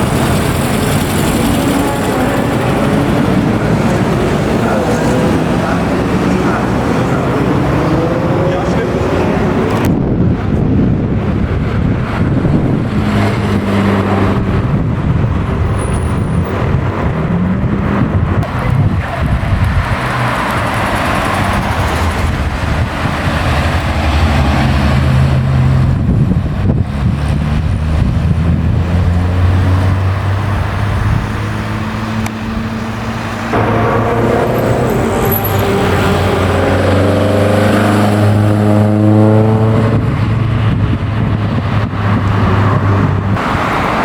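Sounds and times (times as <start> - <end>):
car engines passing: 0.0 - 44.0.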